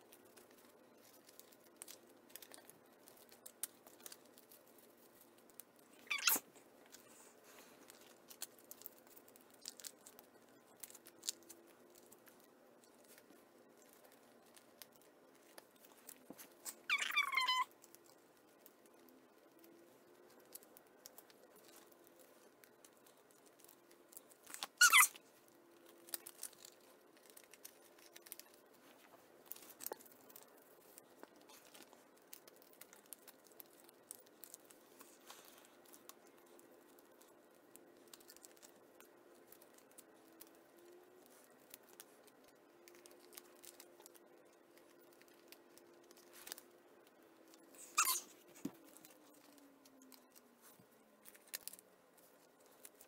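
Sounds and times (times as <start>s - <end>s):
faint steady hum: 0.0s - 53.0s
plastic crinkles: 0.0s - 53.0s
plastic sleeves rustling: 0.0s - 53.0s.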